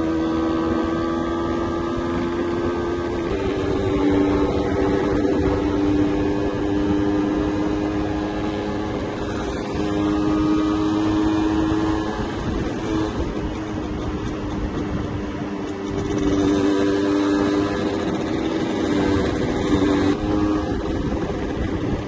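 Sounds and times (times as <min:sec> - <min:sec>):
two-stroke motorcycle engine running: 0:00.0 - 0:22.0
wind and road noise: 0:00.0 - 0:22.0.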